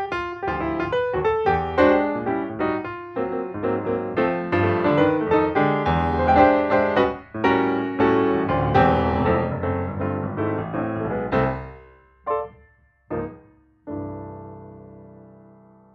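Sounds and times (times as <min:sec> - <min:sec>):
piano music: 0:00.0 - 0:15.9.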